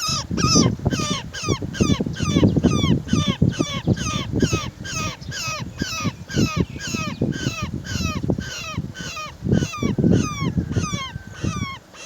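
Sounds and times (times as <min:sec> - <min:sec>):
bird harsh downward calls: 0:00.0 - 0:12.0.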